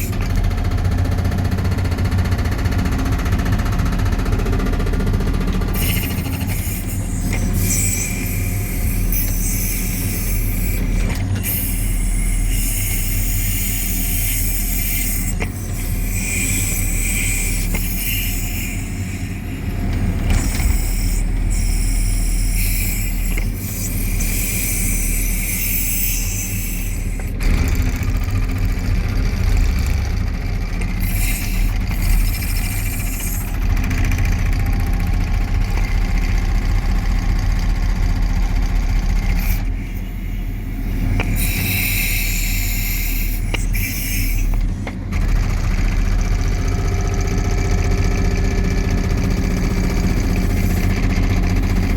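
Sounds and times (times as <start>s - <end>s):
diesel engine running: 0.0s - 51.9s
hydraulic breaker hammering concrete: 0.0s - 51.9s.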